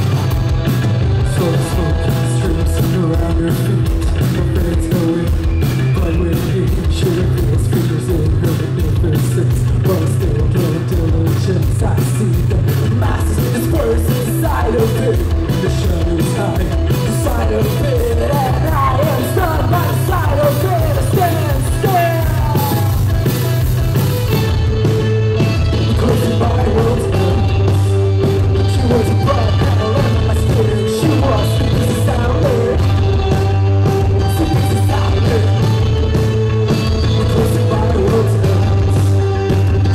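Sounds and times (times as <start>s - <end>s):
bass guitar: 0.0s - 39.9s
drums: 0.0s - 39.9s
electric guitar: 0.0s - 39.9s.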